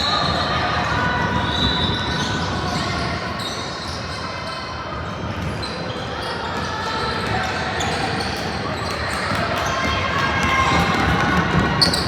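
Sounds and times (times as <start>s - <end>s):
hum of crowd voices: 0.0s - 12.0s
sneakers squeaking: 0.0s - 12.0s.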